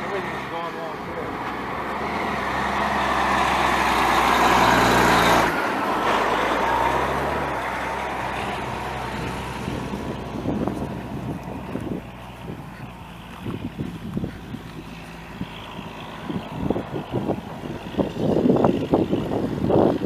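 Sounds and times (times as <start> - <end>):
saw blade grinding asphalt: 0.0 - 19.9
asphalt saw engine running: 0.0 - 20.0.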